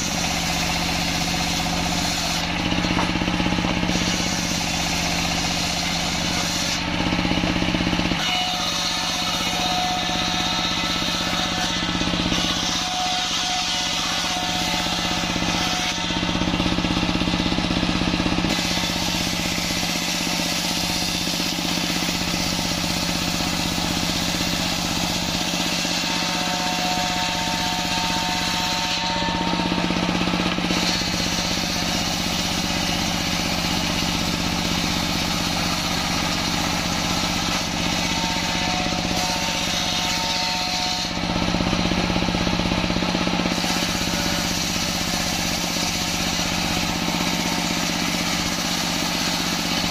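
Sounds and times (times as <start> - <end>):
diesel engine running: 0.0 - 8.2, 14.5 - 25.6, 26.5 - 39.6, 41.1 - 49.9
table saw ripping planks: 0.0 - 49.9.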